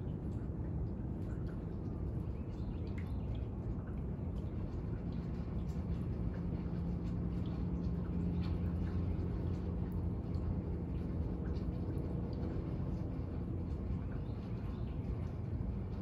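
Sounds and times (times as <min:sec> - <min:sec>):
faint hum: 0:00.0 - 0:16.0
light drips: 0:00.0 - 0:16.0.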